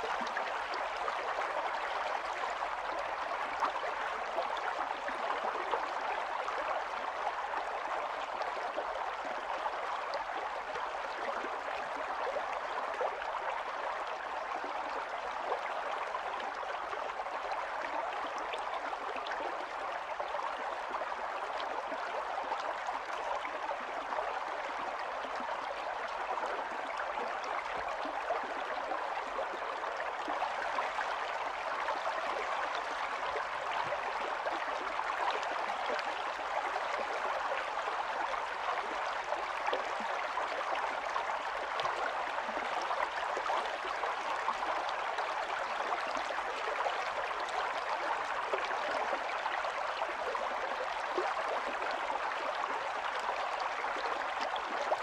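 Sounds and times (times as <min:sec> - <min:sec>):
stream water babbling over stones: 0:00.0 - 0:55.0.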